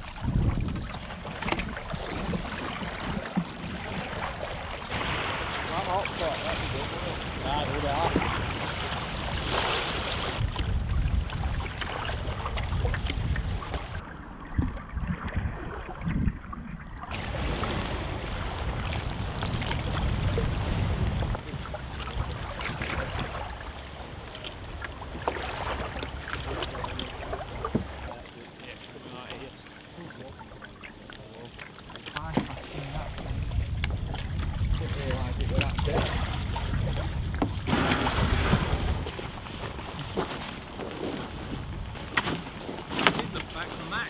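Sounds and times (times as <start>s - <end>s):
water splashing against canoe: 0.0s - 16.3s, 17.0s - 44.0s
wind on microphone: 0.0s - 28.0s, 32.2s - 44.0s.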